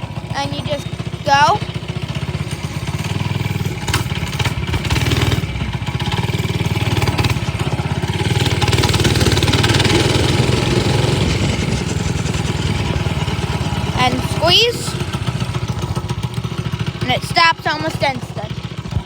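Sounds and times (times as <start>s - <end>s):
minibike engine running: 0.0s - 19.0s.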